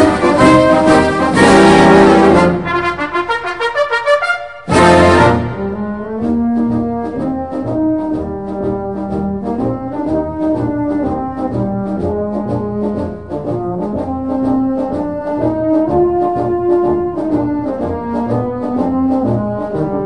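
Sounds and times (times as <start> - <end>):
horns playing slow melody: 0.0 - 20.0.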